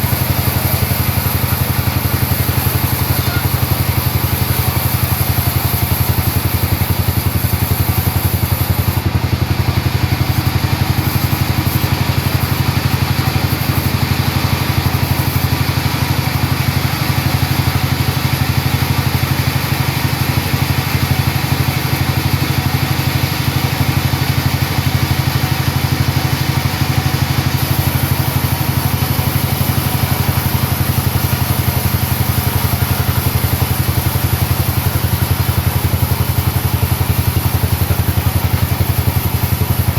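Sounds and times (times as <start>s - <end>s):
engine throbbing steadily: 0.0s - 39.9s.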